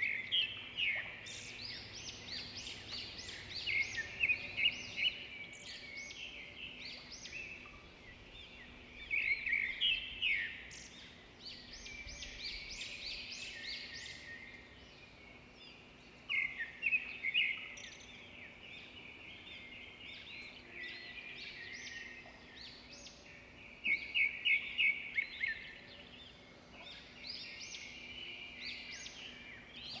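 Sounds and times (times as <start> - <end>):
quiet bird twittering: 0.0 - 30.0
songbird chirps and trills: 0.0 - 30.0.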